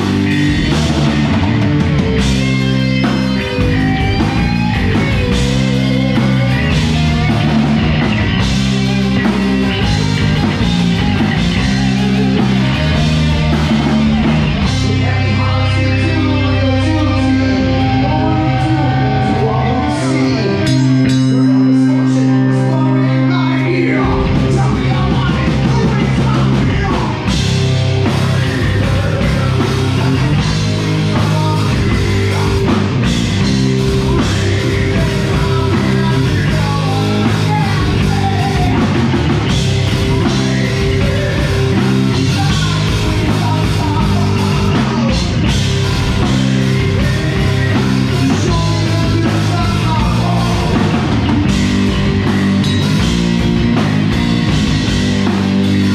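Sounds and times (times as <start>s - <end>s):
person singing: 0.0s - 52.8s
heavy metal band playing: 0.0s - 55.9s.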